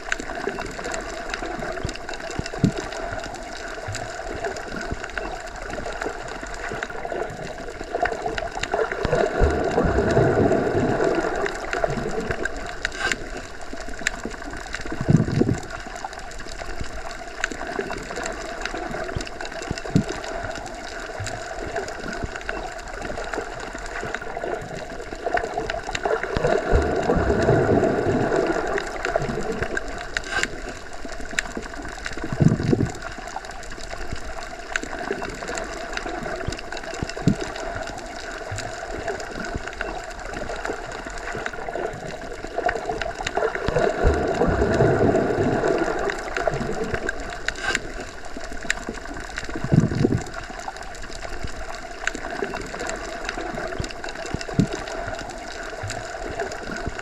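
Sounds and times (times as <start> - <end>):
muffled underwater rush: 0.0 - 57.0.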